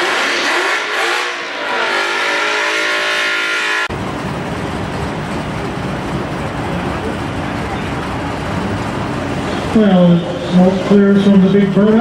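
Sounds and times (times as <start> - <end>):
car burnout rumble: 0.0 - 12.0
distant racing car accelerating: 0.0 - 12.0.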